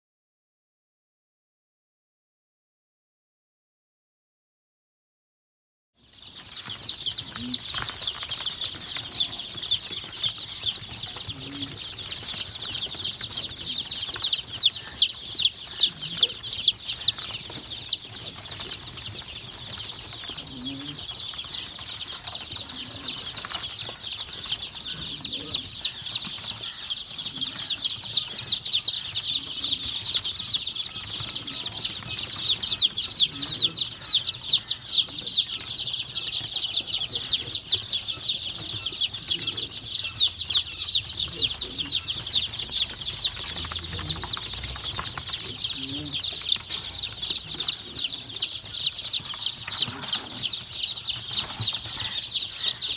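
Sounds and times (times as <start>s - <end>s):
chicks peeping: 6.0s - 52.9s.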